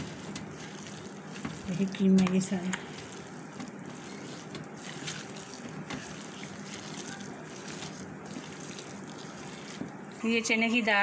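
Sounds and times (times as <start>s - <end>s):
hand squishing raw mince: 0.0s - 10.3s.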